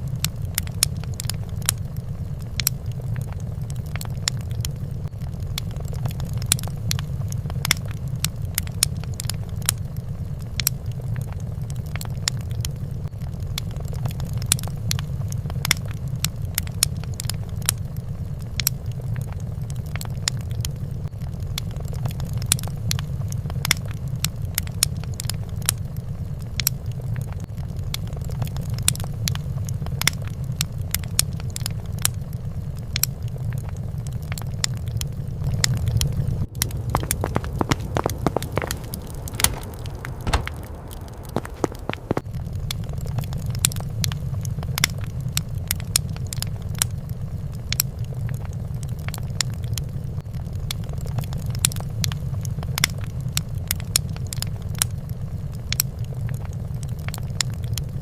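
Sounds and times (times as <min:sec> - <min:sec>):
fire crackling and popping: 0:00.0 - 0:58.0
low fire rumble: 0:00.0 - 0:58.0.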